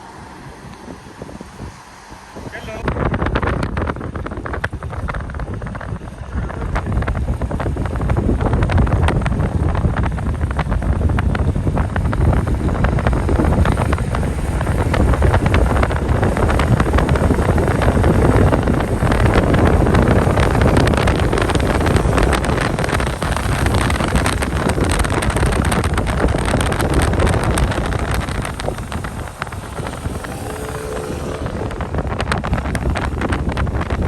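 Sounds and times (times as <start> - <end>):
steady rushing noise: 0.0 - 34.0
wind buffeting microphone: 0.0 - 34.0.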